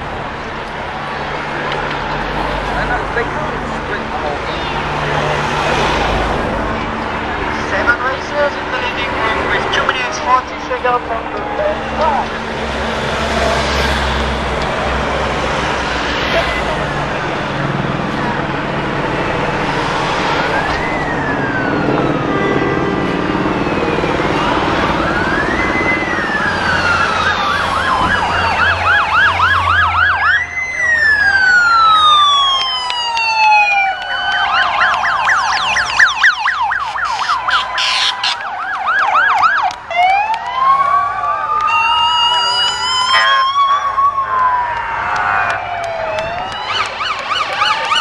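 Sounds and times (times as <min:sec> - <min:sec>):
motorcycle sirens wailing and yelping: 0:00.0 - 0:48.0.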